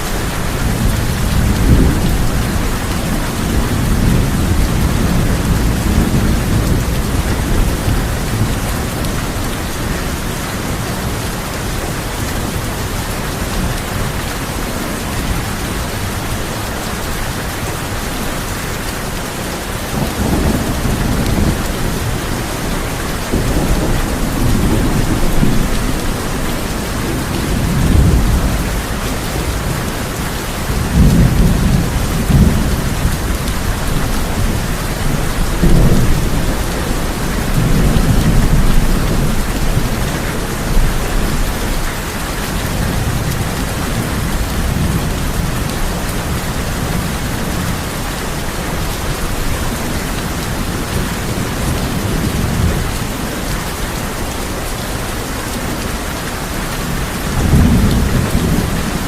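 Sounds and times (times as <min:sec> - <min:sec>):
thunder rumbling: 0:00.0 - 0:14.6, 0:18.8 - 0:53.6, 0:56.8 - 0:59.0
heavy rain on a tin roof: 0:00.0 - 0:59.0.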